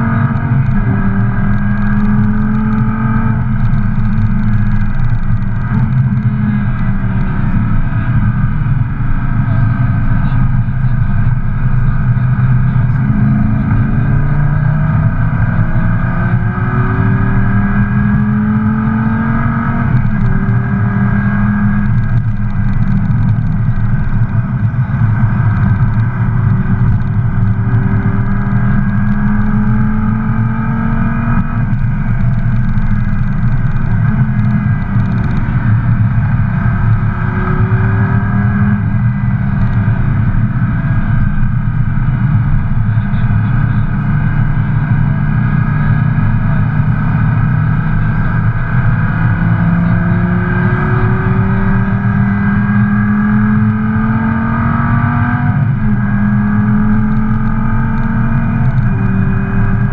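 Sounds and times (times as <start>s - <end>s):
road noise: 0.0s - 59.9s
sports car engine accelerating: 0.0s - 59.9s.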